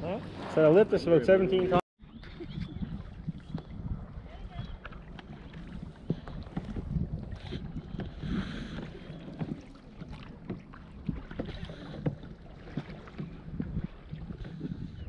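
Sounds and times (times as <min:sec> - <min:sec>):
wind rumble on microphone: 0:02.0 - 0:09.6, 0:10.4 - 0:15.0
water slapping against kayak hull: 0:02.2 - 0:15.0.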